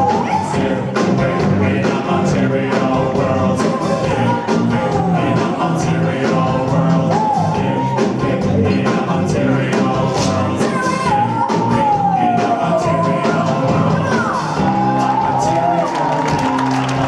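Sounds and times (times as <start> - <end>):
person singing: 0.0 - 16.3
live rock band: 0.0 - 17.0.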